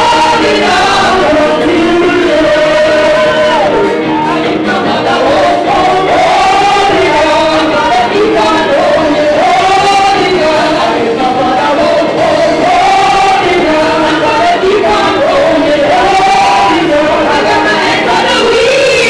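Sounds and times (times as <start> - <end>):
gospel choir singing: 0.0 - 19.0
woman singing lead on microphone: 0.0 - 19.0.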